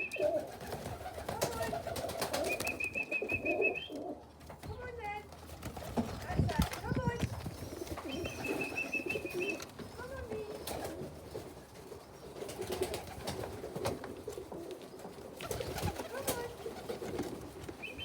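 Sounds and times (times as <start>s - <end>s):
pigeons cooing: 0.0s - 4.3s, 6.0s - 18.0s.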